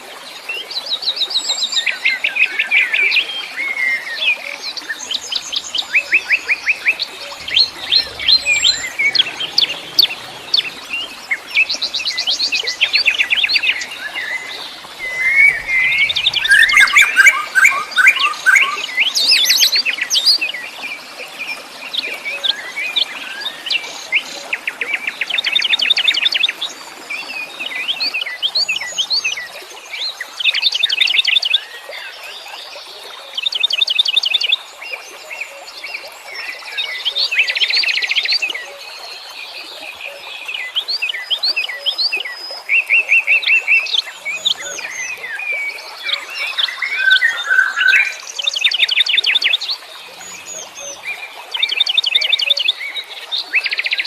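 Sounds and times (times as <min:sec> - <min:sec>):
wild birds chirping and trilling: 0:01.4 - 0:32.3, 0:33.4 - 0:54.0.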